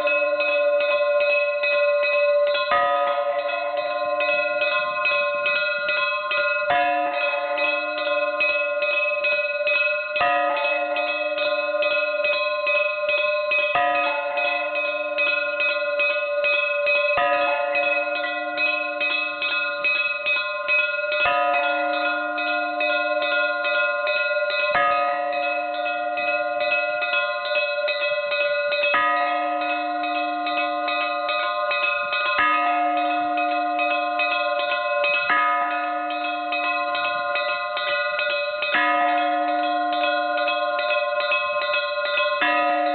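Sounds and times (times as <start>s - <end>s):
deep bell strikes: 0.0s - 42.9s
small bells chiming rapidly: 0.0s - 42.9s.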